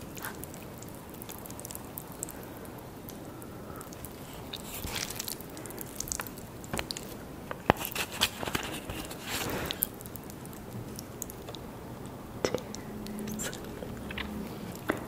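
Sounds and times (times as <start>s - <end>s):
chewing noodles: 0.0s - 15.0s.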